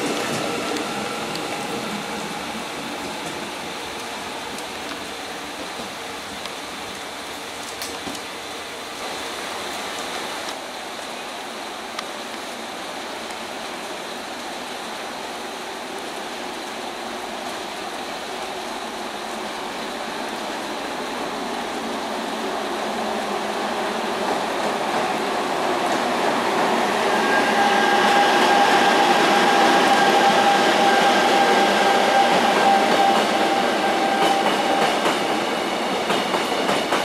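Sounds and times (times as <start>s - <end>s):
freight train passing: 0.0s - 10.5s, 12.4s - 37.0s.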